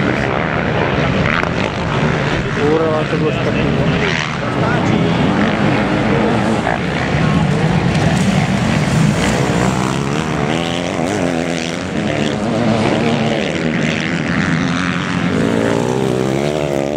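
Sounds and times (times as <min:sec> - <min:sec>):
motocross bike engines revving: 0:00.0 - 0:16.9.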